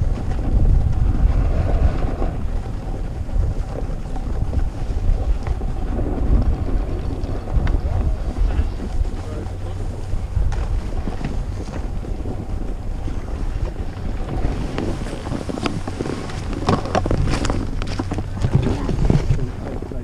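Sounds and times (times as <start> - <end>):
snowboard scraping and clattering: 0.0 - 20.0
snowboard sliding over snow: 0.0 - 20.0
wind rumbling on microphone: 0.0 - 20.0.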